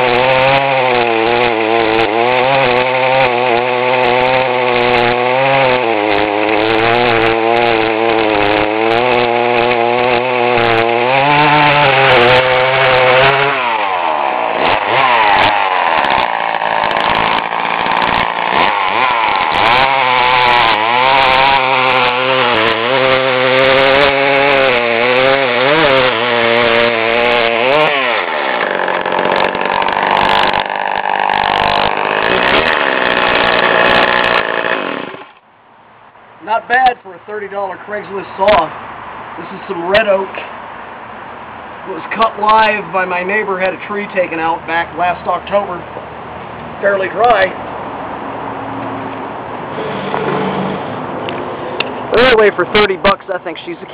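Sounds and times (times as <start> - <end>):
chainsaw cutting wood: 0.0 - 35.5, 36.5 - 38.8, 39.5 - 40.6, 41.9 - 47.6, 49.1 - 53.9.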